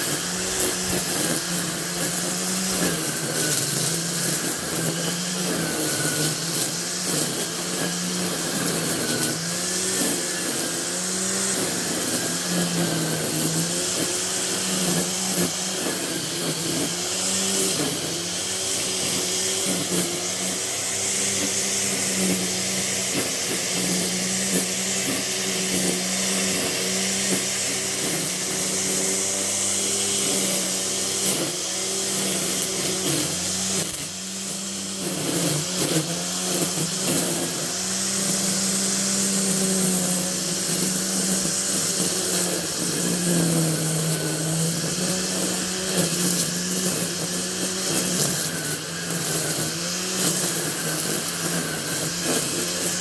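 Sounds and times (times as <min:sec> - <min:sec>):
small engine humming: 0:00.0 - 0:53.0.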